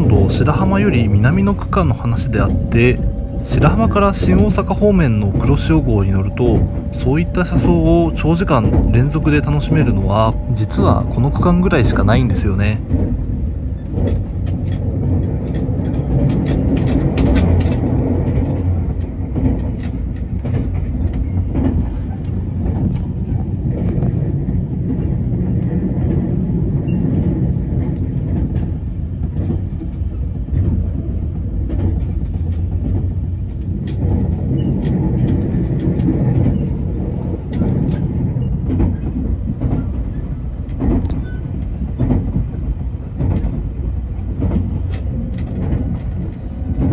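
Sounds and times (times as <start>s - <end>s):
train interior rumble: 0.0s - 46.9s.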